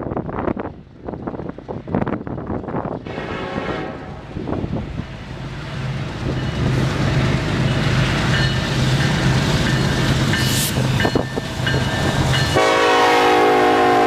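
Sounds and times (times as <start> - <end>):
train approaching: 0.0 - 14.0.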